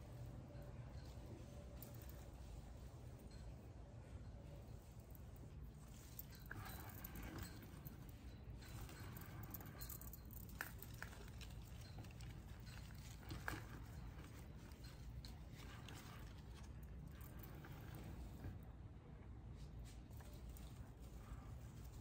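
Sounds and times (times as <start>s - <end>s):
rustling of soil and leaves: 0.0s - 18.7s
low steady hum: 0.0s - 22.0s.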